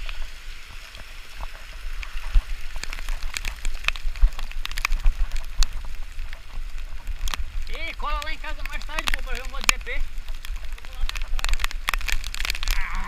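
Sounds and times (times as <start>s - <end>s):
rain spattering: 0.0s - 13.0s.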